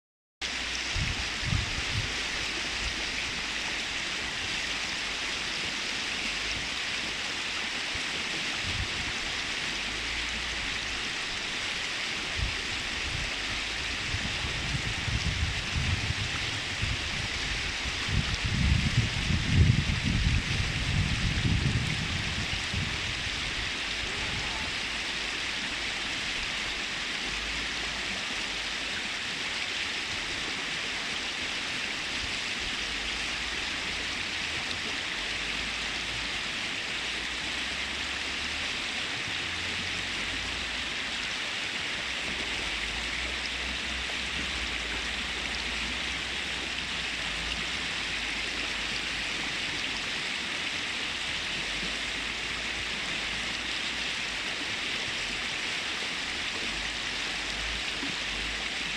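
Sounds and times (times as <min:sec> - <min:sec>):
river rushing over rocks: 0:00.4 - 0:58.9.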